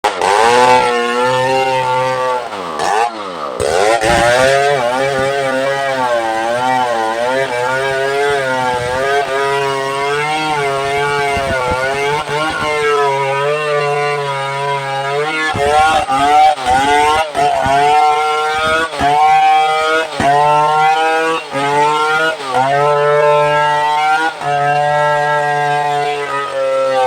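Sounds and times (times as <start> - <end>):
chainsaw running at high revs: 0.0 - 27.0.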